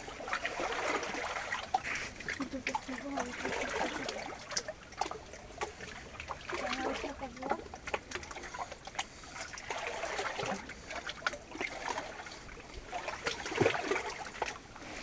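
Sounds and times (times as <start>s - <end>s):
feet wading through water: 0.0s - 15.0s.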